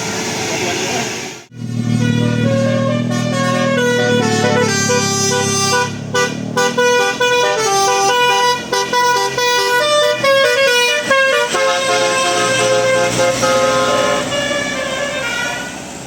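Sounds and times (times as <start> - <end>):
low engine hum: 0.0 - 16.0
bus horn playing melody: 1.5 - 15.9.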